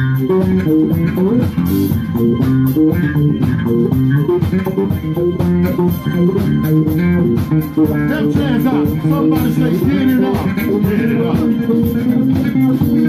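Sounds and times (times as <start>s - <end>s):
drum kit: 0.0s - 13.0s
electric bass guitar solo: 0.0s - 13.0s.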